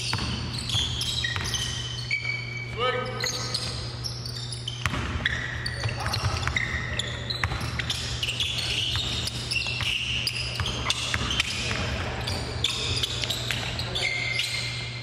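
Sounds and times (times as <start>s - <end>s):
sneakers squeaking on court: 0.0s - 15.0s.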